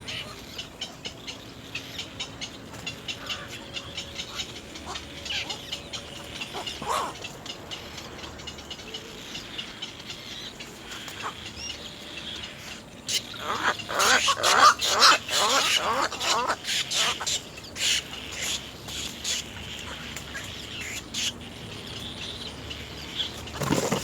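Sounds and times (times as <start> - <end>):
harsh bird calls: 0.0 - 24.0
birds clicking chirps: 0.2 - 24.0.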